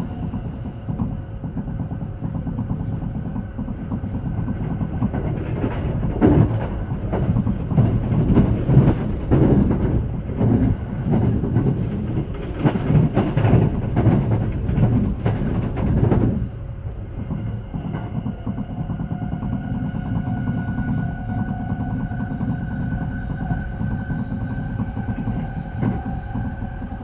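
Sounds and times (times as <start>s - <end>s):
train wheels clattering over rails: 0.0s - 27.0s.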